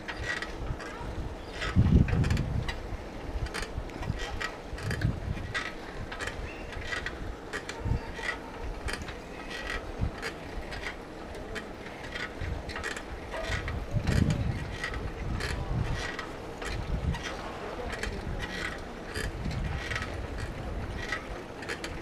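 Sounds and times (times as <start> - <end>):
bike rattling and clicking: 0.0 - 22.0
wind buffeting microphone: 0.0 - 22.0.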